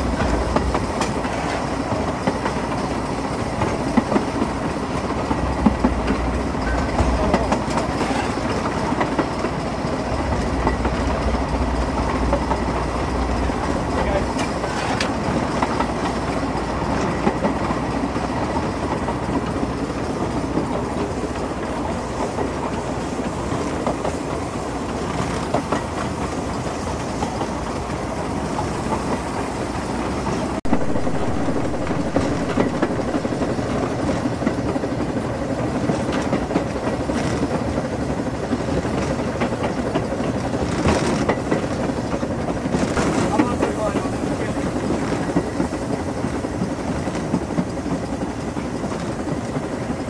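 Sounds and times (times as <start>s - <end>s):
steam locomotive engine running: 0.0s - 50.0s
train wheels clattering on rails: 0.0s - 50.0s.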